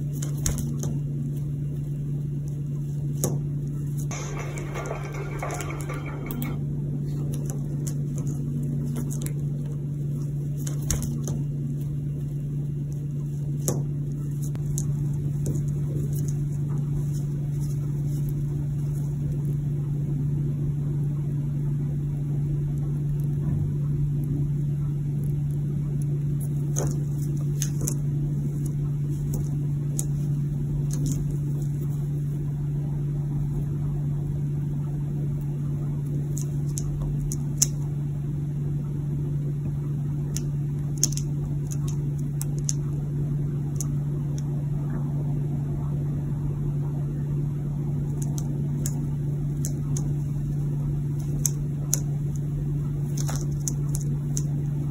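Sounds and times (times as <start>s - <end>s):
low hum: 0.0s - 54.9s.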